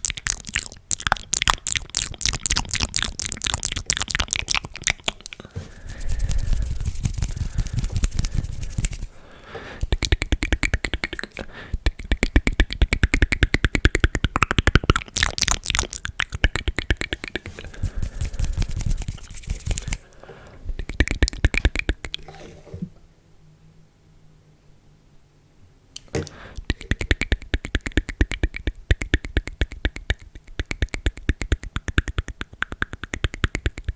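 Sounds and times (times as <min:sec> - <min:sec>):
tongue and lip clicks: 0:00.0 - 0:09.1, 0:09.8 - 0:20.1, 0:20.7 - 0:22.3, 0:26.0 - 0:33.9.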